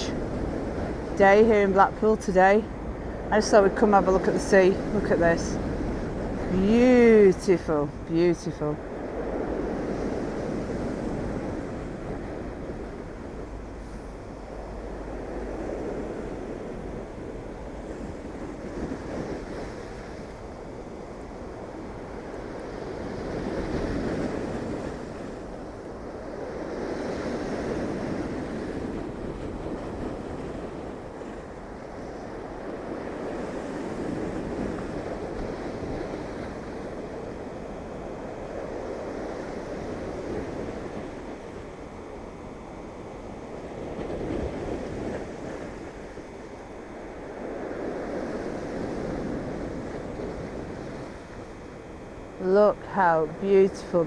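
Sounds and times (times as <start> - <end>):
wind buffeting microphone: 0.0 - 52.3
waves breaking on shore: 0.0 - 54.0.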